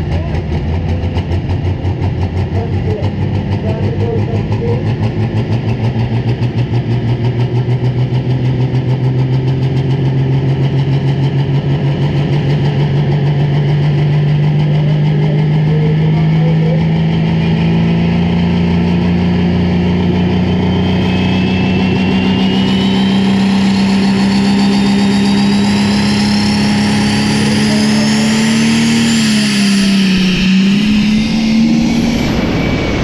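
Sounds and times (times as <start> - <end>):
diesel tractor engine revving: 0.0 - 33.0.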